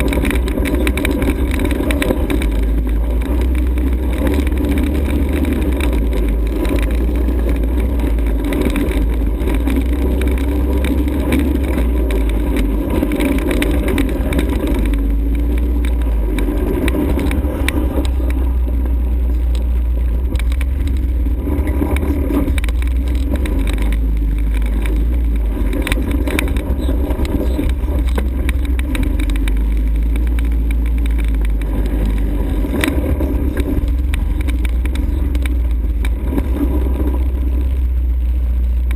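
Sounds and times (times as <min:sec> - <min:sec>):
engine revving up and down: 0:00.0 - 0:37.8
heavy low rumble: 0:00.0 - 0:38.9.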